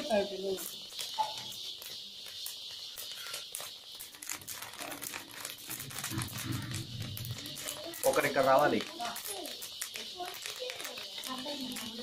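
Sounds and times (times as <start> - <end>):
grains popping: 0.0 - 12.0.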